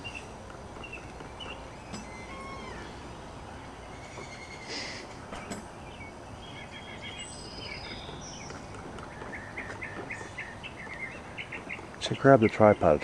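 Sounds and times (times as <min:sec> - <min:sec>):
birds chirping and whistling: 0:00.0 - 0:13.0
steady background hiss: 0:00.0 - 0:13.0.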